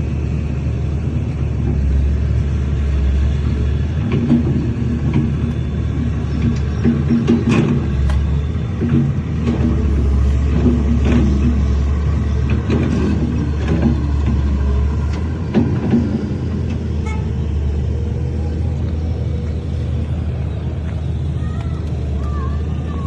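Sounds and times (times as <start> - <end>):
diesel machine rumbling: 0.0 - 23.0.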